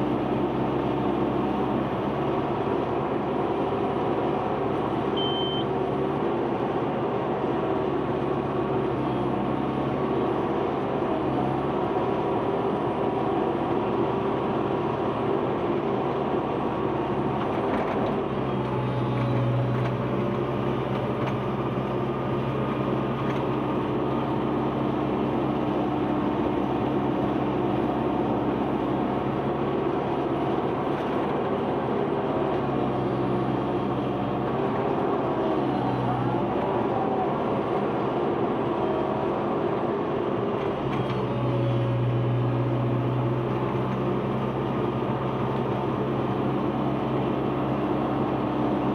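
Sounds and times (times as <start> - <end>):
heavy machinery diesel engine running: 0.0 - 48.9.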